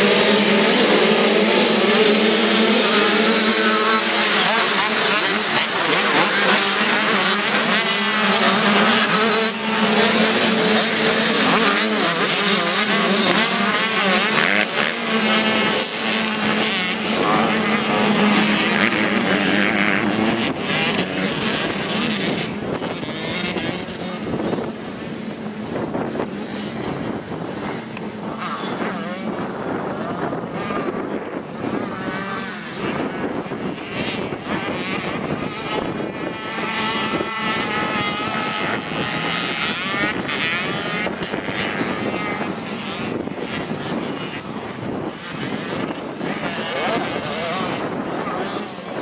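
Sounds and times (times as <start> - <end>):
motocross bikes revving: 0.0 - 49.0.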